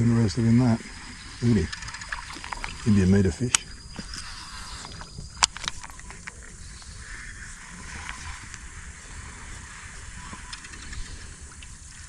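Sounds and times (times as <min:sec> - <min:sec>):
fishing reel whirring: 0:00.0 - 0:12.0
wind on microphone: 0:00.0 - 0:12.0.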